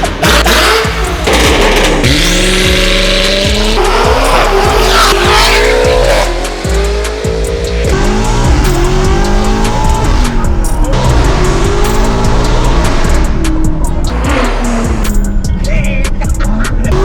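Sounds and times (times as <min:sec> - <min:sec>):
background music: 0:00.0 - 0:17.0
car engine revving hard: 0:00.0 - 0:17.0.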